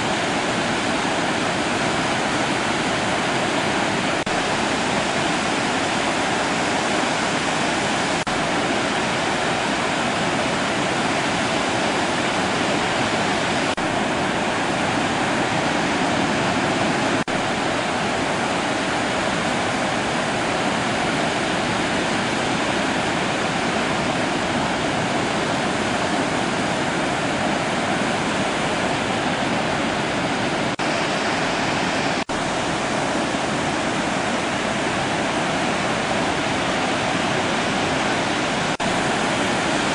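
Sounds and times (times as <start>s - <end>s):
surf rushing: 0.0s - 39.9s.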